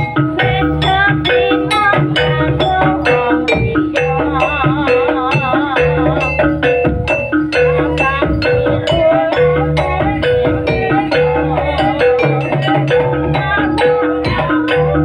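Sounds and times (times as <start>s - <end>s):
drums: 0.0s - 15.0s
gamelan music: 0.0s - 15.0s
metal-keyed instruments: 0.0s - 15.0s.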